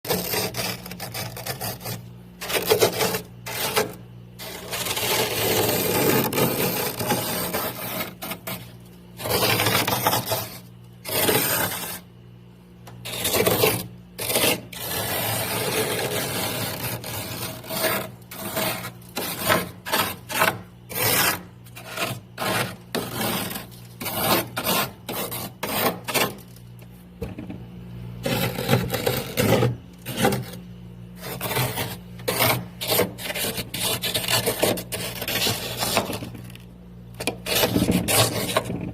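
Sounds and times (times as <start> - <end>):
frost being scraped: 0.1 - 12.2, 13.0 - 26.6, 28.2 - 36.6, 37.2 - 38.8.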